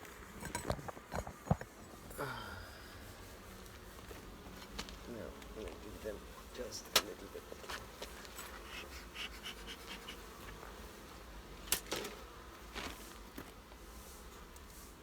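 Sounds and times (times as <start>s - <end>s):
honeybees buzzing: 0.0s - 15.0s
ticks and scrapes from hive: 0.0s - 15.0s.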